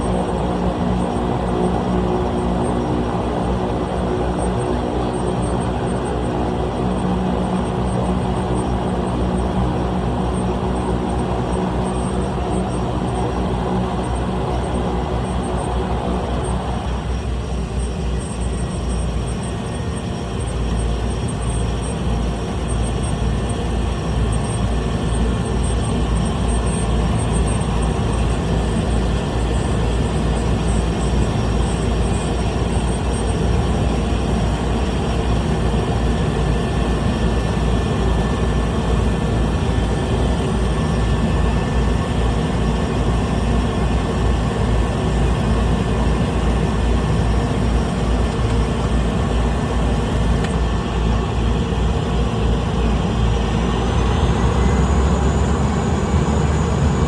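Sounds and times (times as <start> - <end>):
propeller engine running: 0.0 - 57.0.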